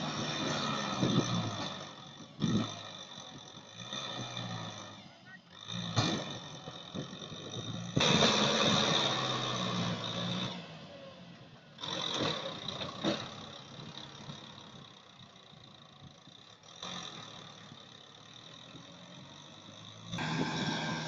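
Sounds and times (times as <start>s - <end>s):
tractor diesel engine working: 0.0s - 21.0s.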